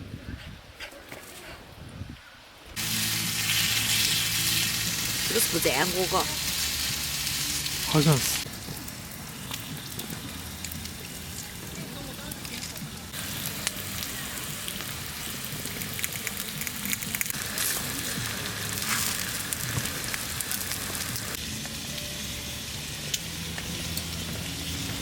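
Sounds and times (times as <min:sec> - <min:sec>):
food sizzling in a pan: 0:02.8 - 0:25.0.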